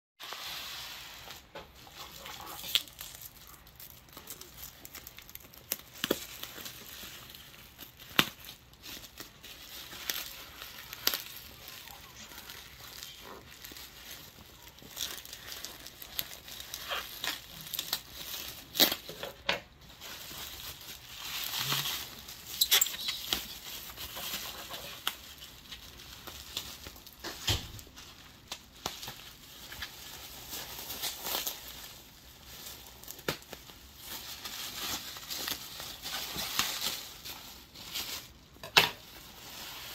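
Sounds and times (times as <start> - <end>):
bubble wrap crinkling: 0.2 - 39.9.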